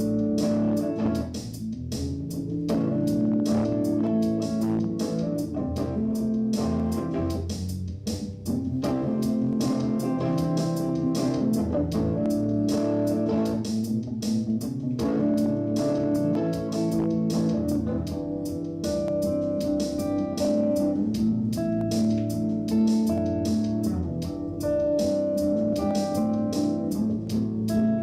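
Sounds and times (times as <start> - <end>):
bass guitar: 0.0 - 28.0
electric guitar: 0.0 - 28.0
steady beat: 0.0 - 28.0.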